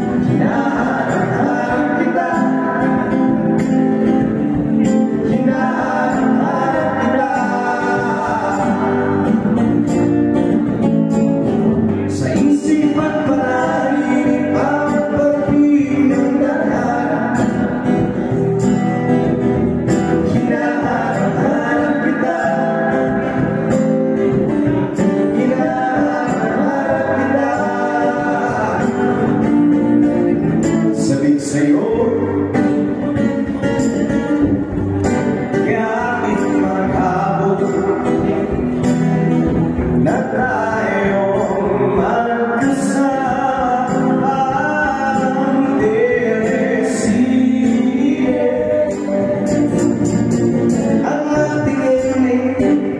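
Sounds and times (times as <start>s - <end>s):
acoustic guitar: 0.0s - 52.9s
drum kit keeping time: 0.0s - 52.9s
man singing: 0.0s - 52.9s.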